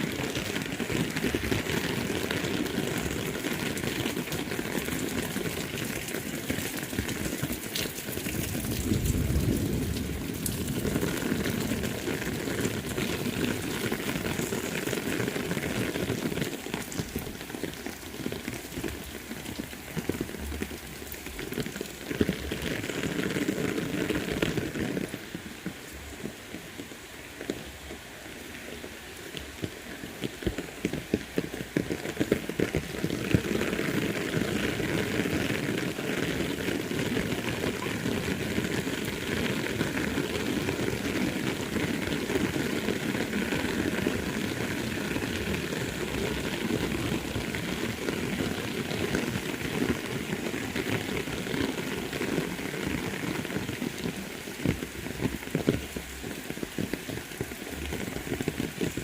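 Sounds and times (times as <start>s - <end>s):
heavy rain pattering: 0.0s - 59.0s.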